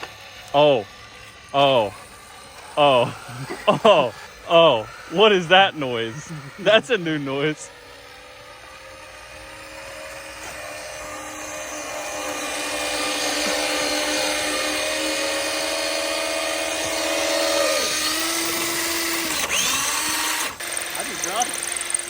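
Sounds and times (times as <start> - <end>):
electric rc car motor whining: 0.0 - 22.0.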